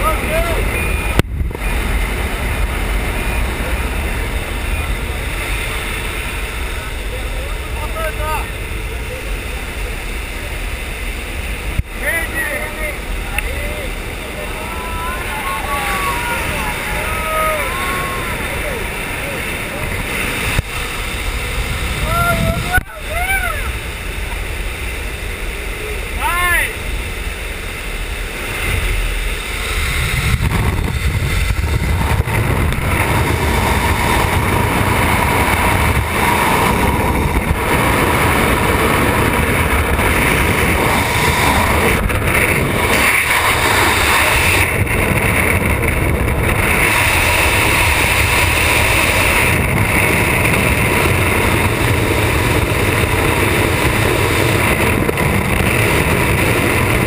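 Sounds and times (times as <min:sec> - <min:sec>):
wind rushing over helmet camera: 0:00.0 - 0:57.0.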